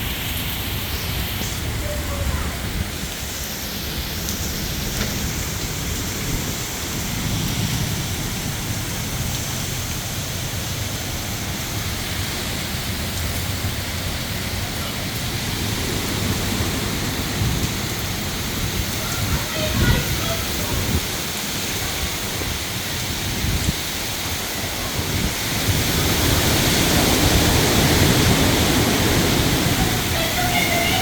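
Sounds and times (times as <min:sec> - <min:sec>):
heavy rain falling: 0:00.0 - 0:31.0
low thunder rumbling: 0:00.0 - 0:31.0.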